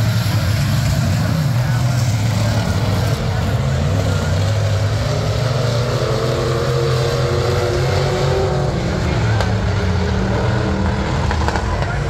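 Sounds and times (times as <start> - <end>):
race car engines running hard: 0.0 - 12.0.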